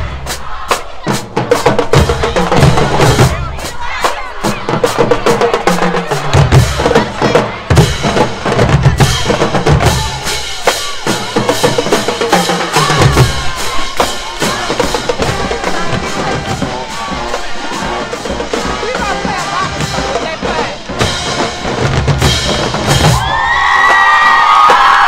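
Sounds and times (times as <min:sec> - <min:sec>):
bass drums beating: 0:00.0 - 0:25.0
snare drums beating: 0:00.0 - 0:25.0.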